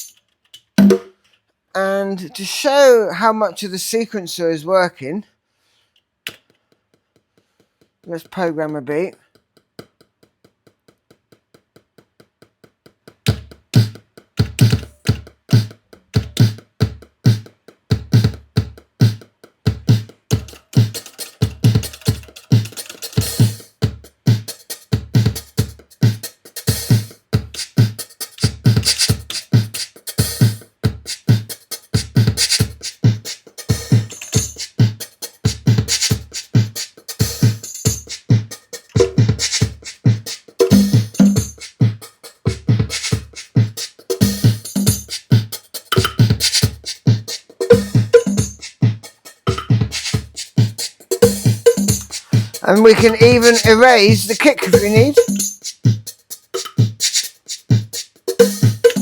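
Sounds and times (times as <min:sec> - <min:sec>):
drum machine beat: 0:00.8 - 0:01.1, 0:09.6 - 0:59.0.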